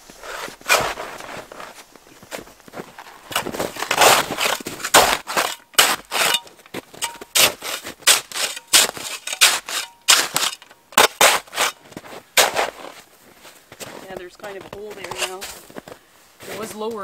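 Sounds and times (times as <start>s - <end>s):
snow shovel crunching snow: 0.0s - 17.0s.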